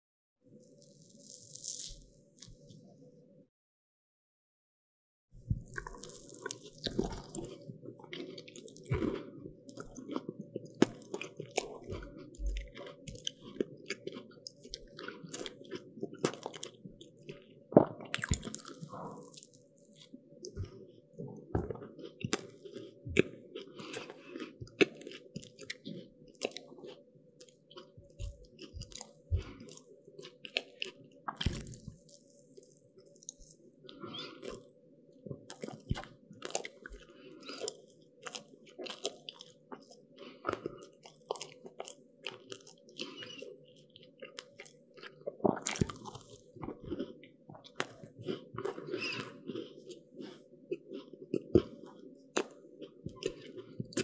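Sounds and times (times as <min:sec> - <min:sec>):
crunching crisp pastry: 0:00.6 - 0:02.6, 0:05.7 - 0:20.8, 0:21.5 - 0:34.8, 0:35.4 - 0:54.0
chewing: 0:05.5 - 0:54.0.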